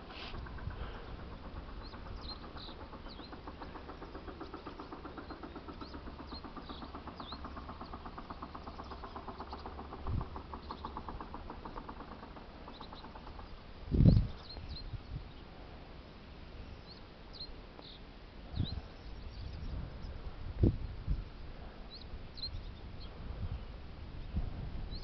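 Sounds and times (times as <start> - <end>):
low wind rumble: 0.0 - 25.0
small birds chirping: 0.0 - 25.0.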